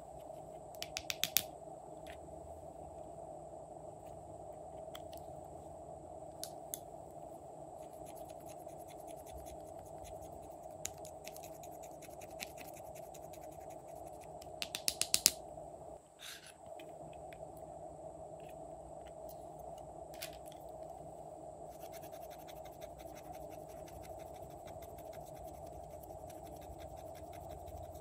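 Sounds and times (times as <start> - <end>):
background hum: 0.0 - 28.0.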